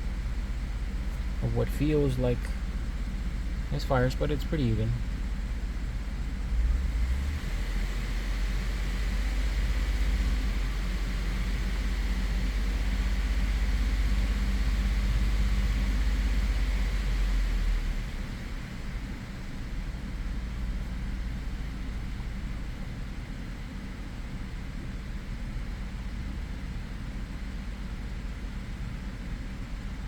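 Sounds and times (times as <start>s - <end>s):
engine idling with misfires: 0.0s - 30.0s.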